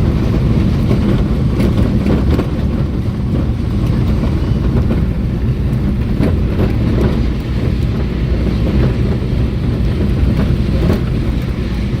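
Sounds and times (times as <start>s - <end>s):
vehicle engine and road noise: 0.0s - 12.0s
wind buffeting microphone: 0.0s - 12.0s.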